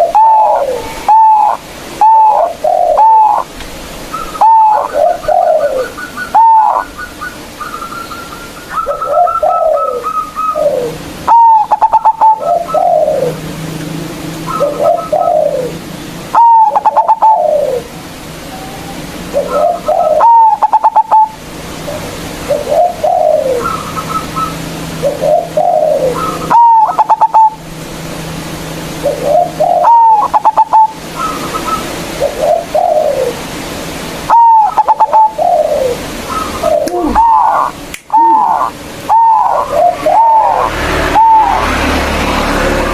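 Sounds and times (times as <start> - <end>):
dove cooing song: 0.0 - 13.8, 14.4 - 42.9.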